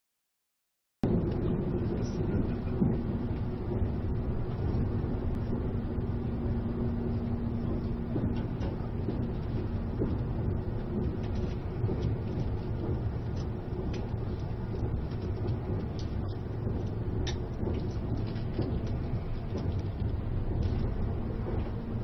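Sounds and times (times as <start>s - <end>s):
train rumbling: 1.0s - 22.0s.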